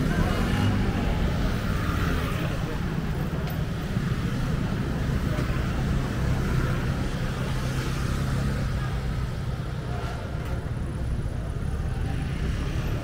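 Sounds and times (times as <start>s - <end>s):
passing cars and motor scooters: 0.0s - 13.0s.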